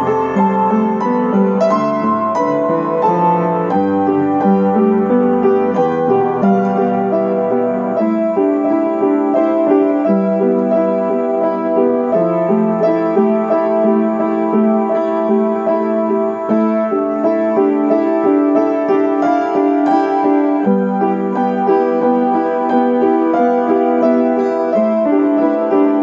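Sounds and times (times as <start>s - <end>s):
piano melody over chords: 0.0s - 26.0s.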